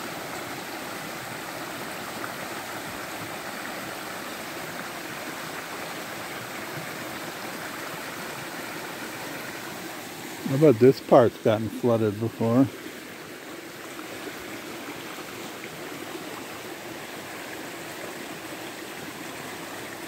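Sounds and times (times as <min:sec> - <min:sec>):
creek water flowing fast: 0:00.0 - 0:20.0.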